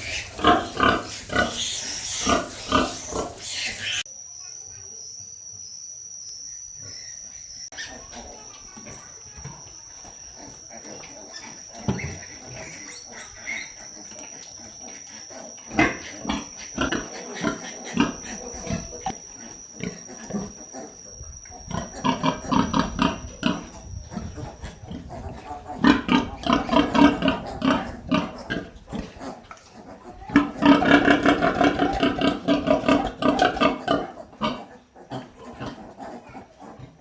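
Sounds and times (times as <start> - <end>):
pigs grunting and squealing: 0.0 - 4.1, 7.7 - 37.0.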